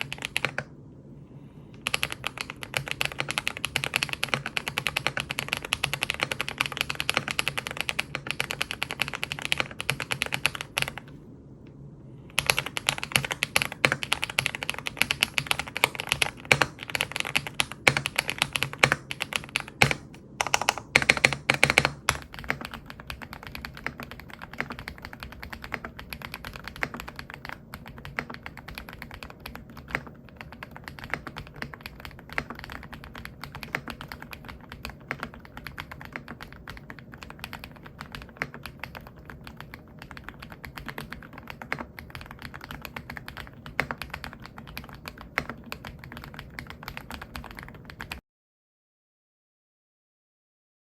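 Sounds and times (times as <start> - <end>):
rapid keyboard typing: 0.0 - 0.8, 1.8 - 11.2, 12.3 - 48.2.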